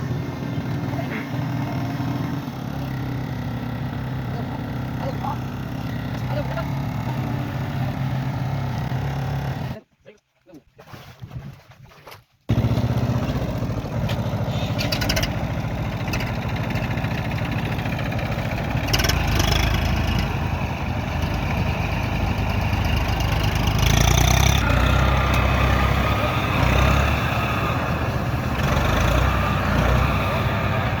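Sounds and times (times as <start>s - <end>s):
tractor diesel engine running: 0.0s - 9.8s, 12.5s - 31.0s.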